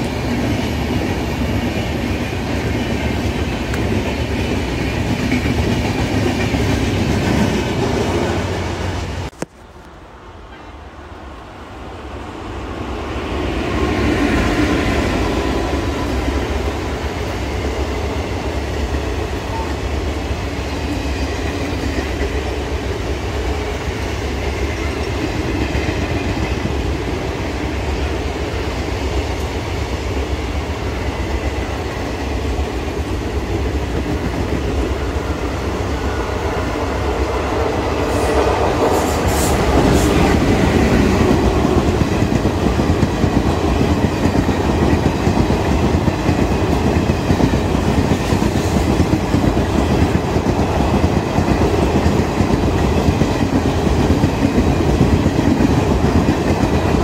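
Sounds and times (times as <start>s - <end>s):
train wheels rumbling on rails: 0.0s - 10.8s, 11.4s - 57.0s.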